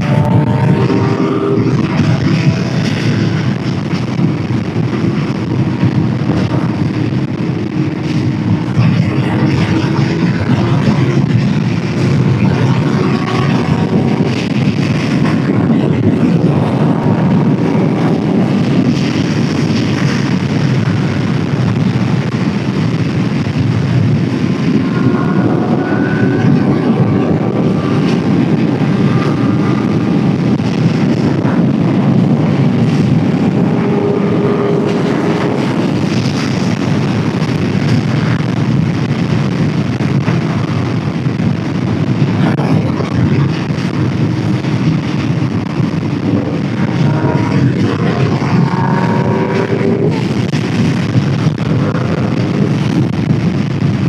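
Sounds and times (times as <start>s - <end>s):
motorcycle engine drone: 0.0s - 54.0s
wind rush on microphone: 0.0s - 54.0s.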